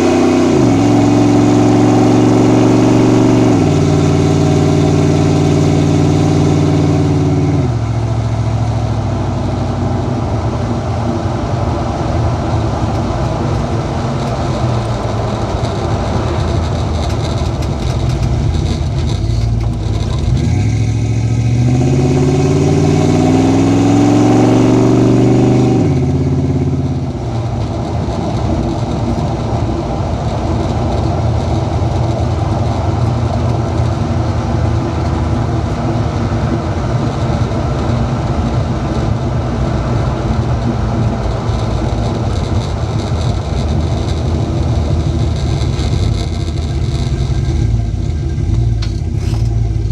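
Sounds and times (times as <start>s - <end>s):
vehicle engine rumbling: 0.0s - 49.9s.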